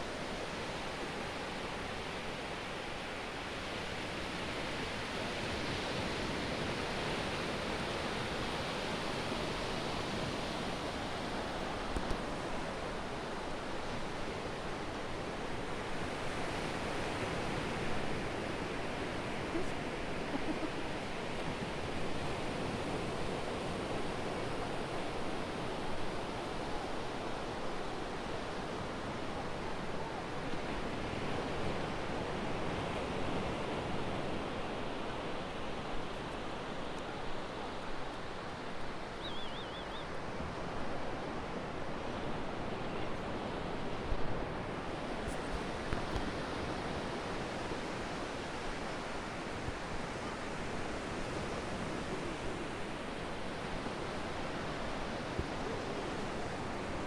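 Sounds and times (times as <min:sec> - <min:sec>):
sea waves: 0:00.1 - 0:57.0.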